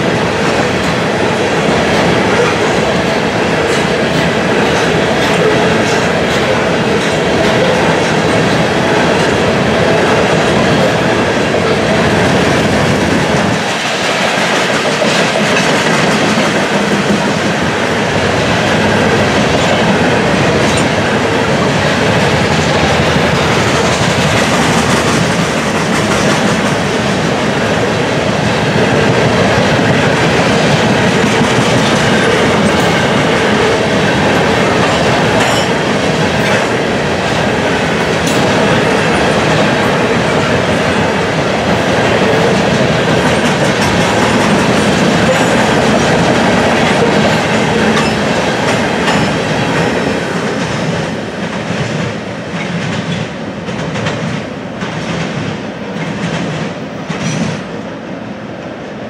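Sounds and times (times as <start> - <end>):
wheels clacking over rail joints: 0.0 - 57.6
freight train rumbling past: 0.0 - 59.0.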